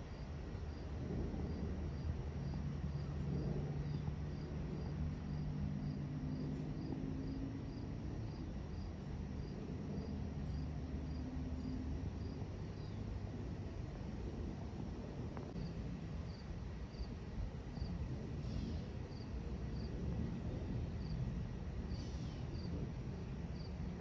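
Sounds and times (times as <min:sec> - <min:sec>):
crickets chirping: 0:00.0 - 0:24.0
jet airliner drone overhead: 0:00.0 - 0:24.0.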